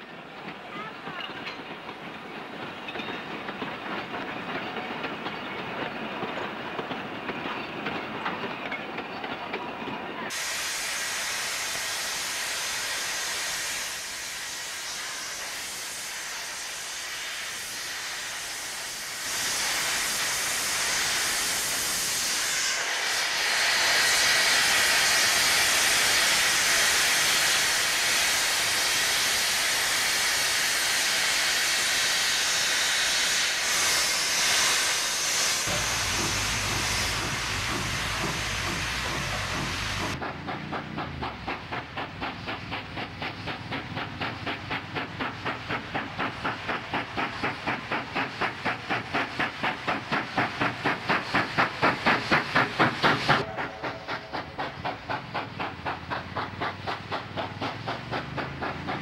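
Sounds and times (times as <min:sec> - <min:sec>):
steam locomotive rolling past: 0:00.0 - 0:59.0
steam hissing from drain cocks: 0:10.3 - 0:59.0.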